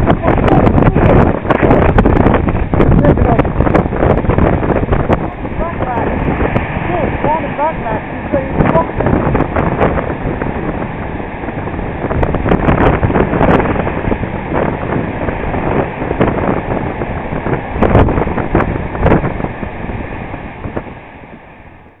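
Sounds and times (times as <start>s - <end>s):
storm waves crashing on sea wall: 0.0s - 22.0s
wind buffeting microphone: 0.0s - 22.0s.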